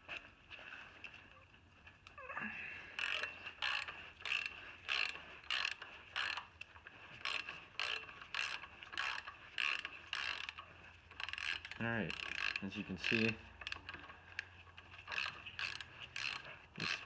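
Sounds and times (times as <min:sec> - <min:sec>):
hand ratchet clicking: 0:02.9 - 0:17.0.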